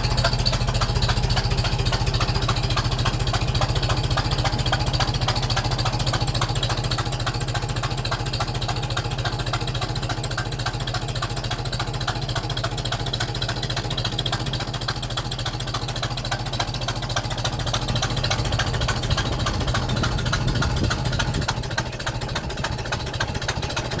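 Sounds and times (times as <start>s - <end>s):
rapid exhaust knocking: 0.0s - 24.0s
tractor engine running: 0.0s - 24.0s.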